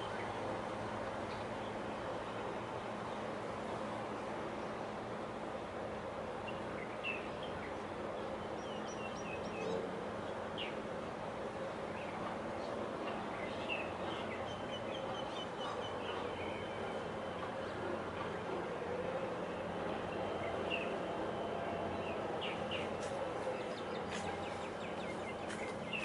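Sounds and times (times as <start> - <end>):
low outdoor hum: 0.0 - 26.0.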